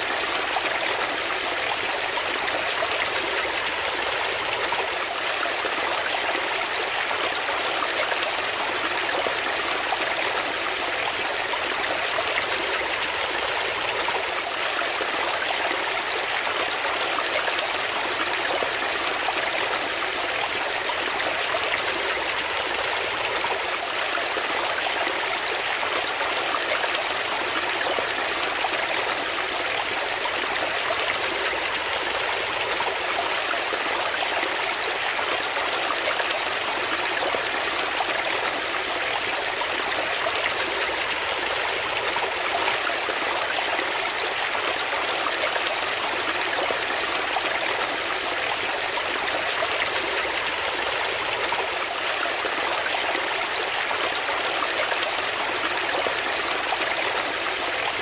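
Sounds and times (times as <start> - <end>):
brook water rushing over rocks: 0.0 - 58.0.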